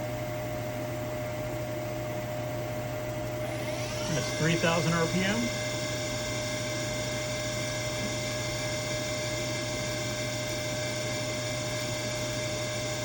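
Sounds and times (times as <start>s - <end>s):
machine spindle whine and hum: 0.0s - 13.0s.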